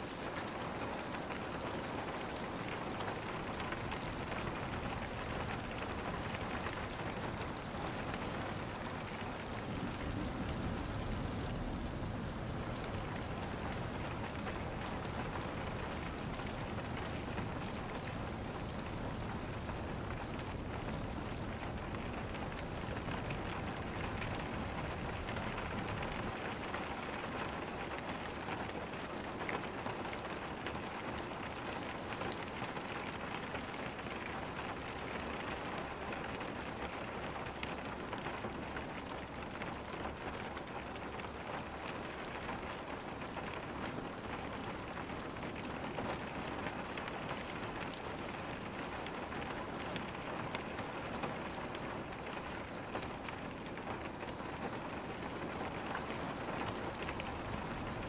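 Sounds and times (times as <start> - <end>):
rain patter: 0.0 - 58.0.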